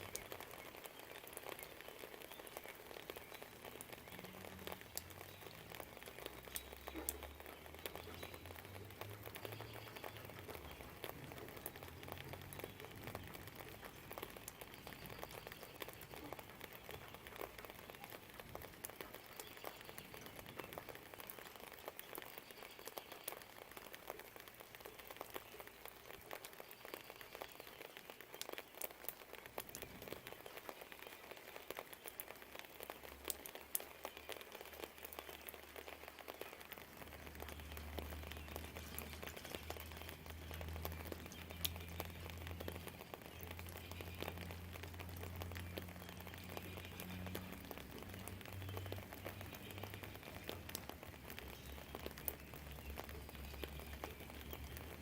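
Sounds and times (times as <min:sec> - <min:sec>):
light rain: 0:00.0 - 0:55.0
raindrops ticking on a surface: 0:00.0 - 0:55.0.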